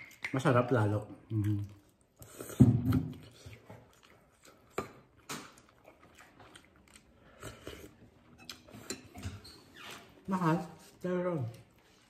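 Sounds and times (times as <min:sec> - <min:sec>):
quiet chewing: 0:01.0 - 0:12.0.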